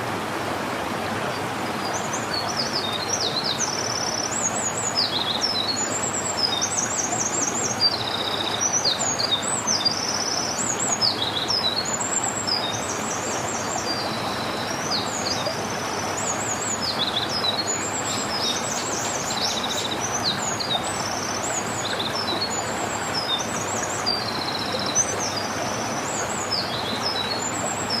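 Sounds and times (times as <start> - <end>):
songbirds singing: 1.3 - 28.0.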